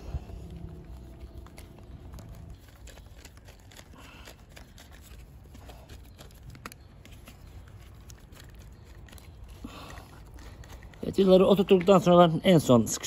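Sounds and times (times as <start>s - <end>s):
rustles of handling: 0.0s - 13.0s.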